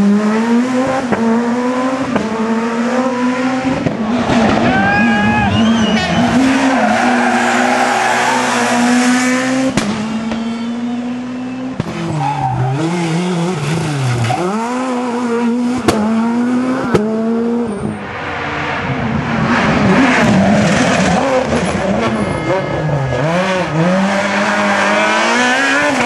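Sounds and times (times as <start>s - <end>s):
rally car engines at high revs: 0.0s - 26.0s.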